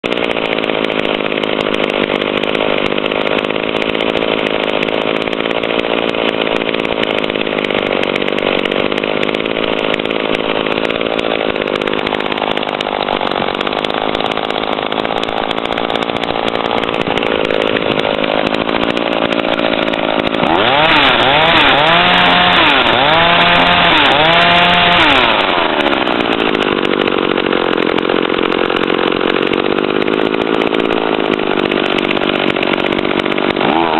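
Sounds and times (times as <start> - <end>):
chainsaw engine idling and revving: 0.0 - 33.9.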